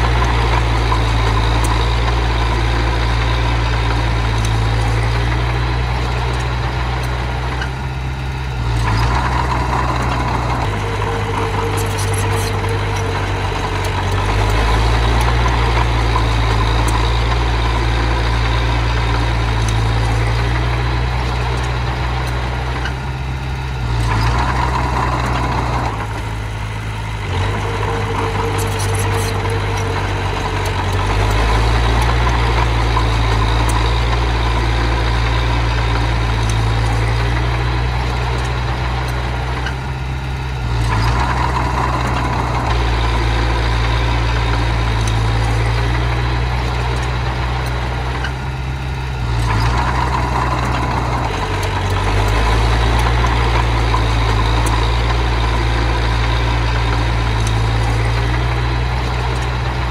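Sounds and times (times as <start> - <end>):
engine whine: 0.0 - 59.9
miniature bulldozer engine rumbling: 0.0 - 59.9.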